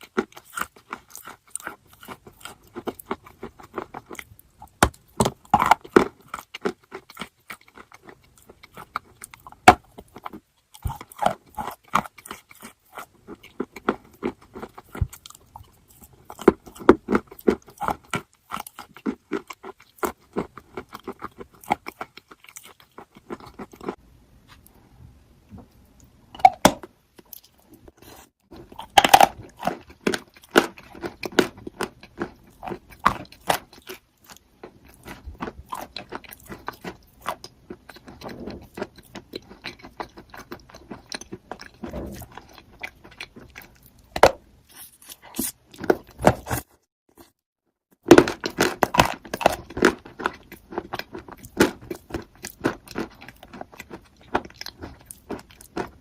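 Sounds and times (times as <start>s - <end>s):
chalk crunching being chewed: 0.0s - 24.7s, 27.2s - 44.1s, 44.7s - 47.4s, 48.2s - 56.0s.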